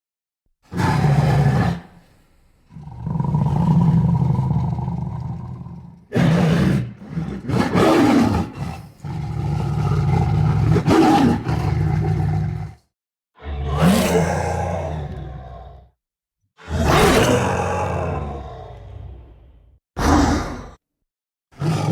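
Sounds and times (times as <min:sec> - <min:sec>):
tiger roaring and growling: 0:00.6 - 0:02.0, 0:02.7 - 0:16.0, 0:16.6 - 0:20.8, 0:21.5 - 0:21.9.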